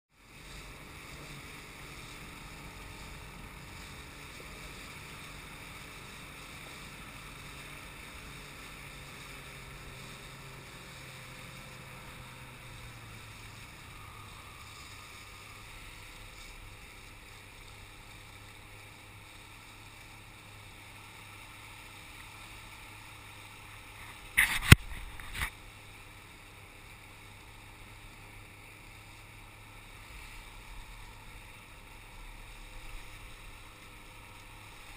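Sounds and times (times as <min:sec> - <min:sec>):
boat motor low hum and hiss: 0:00.1 - 0:34.9.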